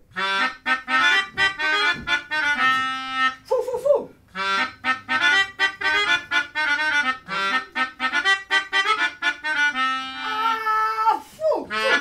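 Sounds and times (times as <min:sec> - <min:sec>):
free-reed instrument playing: 0:00.0 - 0:03.6, 0:04.3 - 0:10.7.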